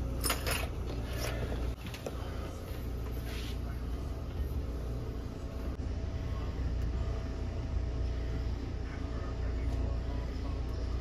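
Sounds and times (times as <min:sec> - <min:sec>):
steady low rumble: 0:00.9 - 0:11.0.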